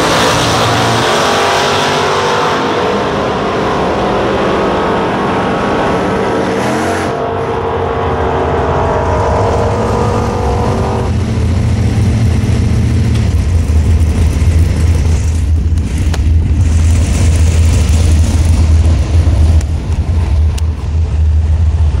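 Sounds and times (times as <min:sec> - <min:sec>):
race car engine running hard: 0:00.0 - 0:22.0
heavy low rumble: 0:02.6 - 0:22.0.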